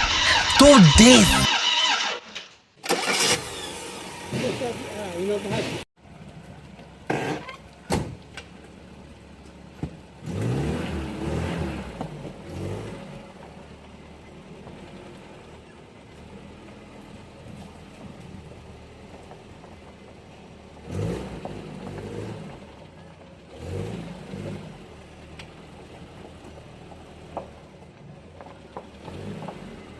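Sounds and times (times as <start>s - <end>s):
car engine idling and revving: 0.0s - 0.6s, 1.3s - 29.9s.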